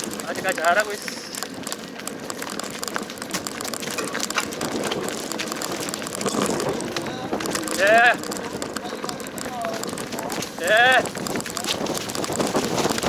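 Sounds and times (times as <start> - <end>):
bike clattering over bumps: 0.0 - 13.0
bike tyres crackling on gravel: 0.0 - 13.0.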